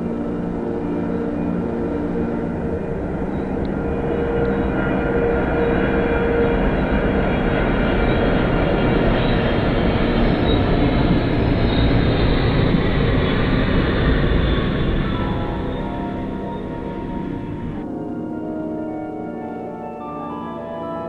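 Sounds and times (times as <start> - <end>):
jet airliner passing overhead: 0.0 - 21.0
soft ambient music: 0.0 - 21.0.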